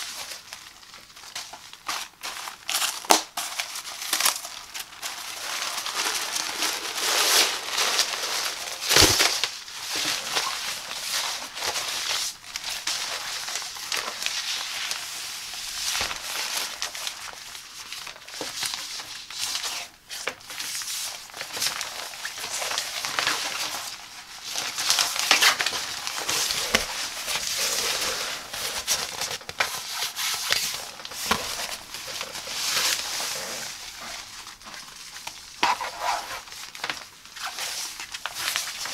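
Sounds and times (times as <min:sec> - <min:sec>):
reflective fabric rustling and crinkling: 0:00.0 - 0:38.9.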